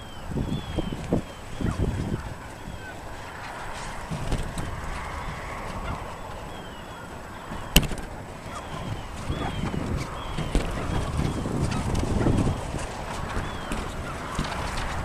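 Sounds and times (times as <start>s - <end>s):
faint high squeaks: 0.0s - 15.0s
microphone rustle and rumble: 0.3s - 15.0s.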